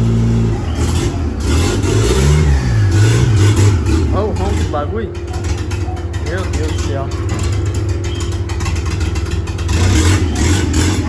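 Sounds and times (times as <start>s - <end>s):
pickup engine revving: 0.0s - 11.0s.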